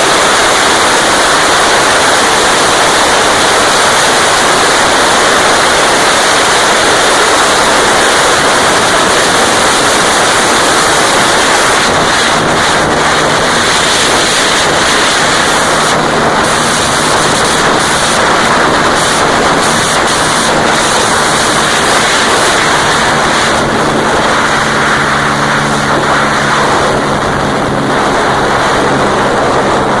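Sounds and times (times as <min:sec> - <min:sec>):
heavy wind on microphone: 0:00.0 - 0:30.0
motorcycle engine running: 0:00.0 - 0:30.0.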